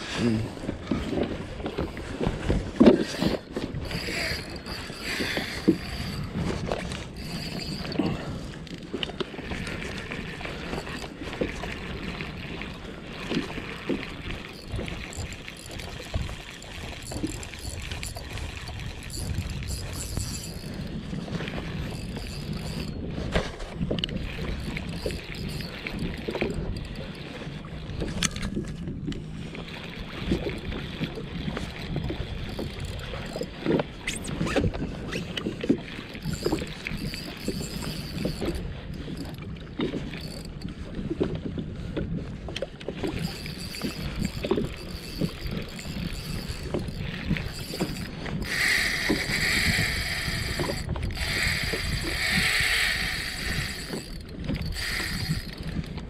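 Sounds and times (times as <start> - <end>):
water lapping against a hull: 0.0 - 56.0
wind rumble on microphone: 0.0 - 56.0.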